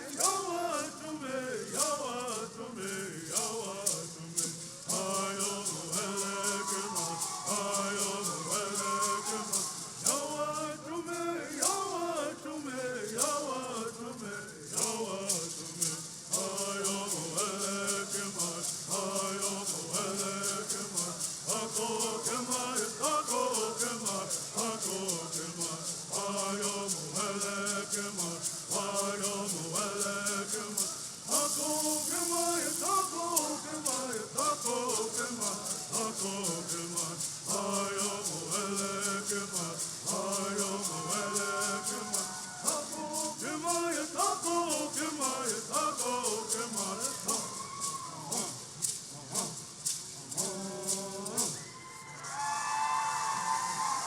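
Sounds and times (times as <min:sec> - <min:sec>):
men singing in unison: 0:00.0 - 0:51.8
gourd rattles shaking: 0:00.0 - 0:54.0.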